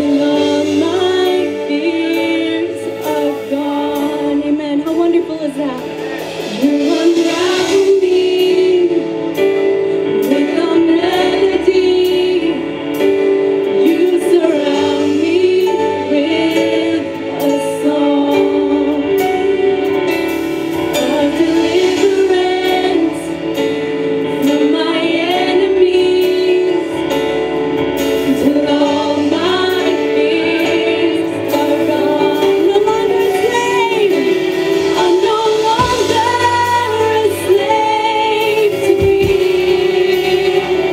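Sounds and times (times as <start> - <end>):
women singing: 0.0 - 9.6, 10.2 - 13.2, 13.8 - 19.7, 20.9 - 27.4, 28.2 - 40.9.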